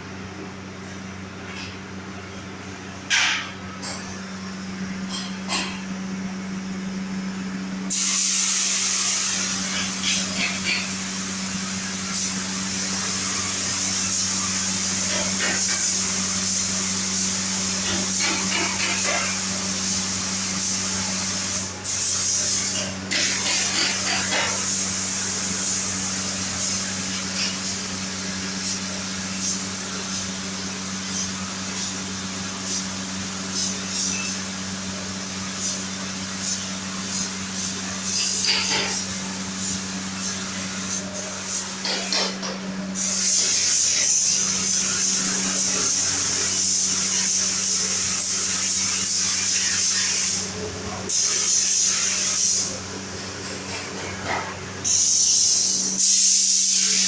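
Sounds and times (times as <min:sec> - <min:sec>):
paint spray gun hissing: 0:07.9 - 0:42.4, 0:43.0 - 0:50.5, 0:51.1 - 0:52.8, 0:54.8 - 0:57.0.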